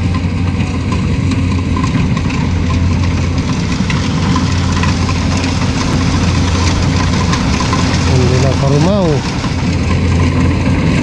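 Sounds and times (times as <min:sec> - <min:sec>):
combine harvester engine running: 0:00.0 - 0:11.0
tractor idling: 0:00.0 - 0:11.0.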